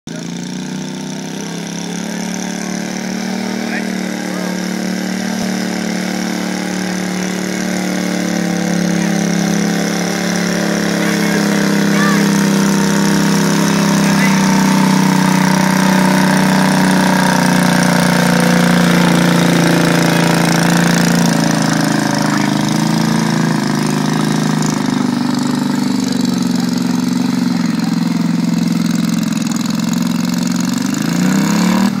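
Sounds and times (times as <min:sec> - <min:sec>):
lawn tractor engine under load: 0:00.0 - 0:32.0.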